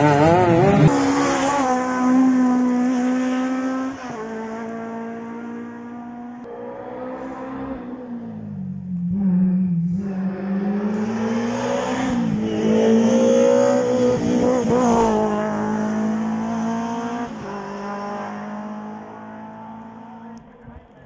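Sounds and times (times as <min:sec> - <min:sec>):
rally car engine revving: 0:00.0 - 0:20.5.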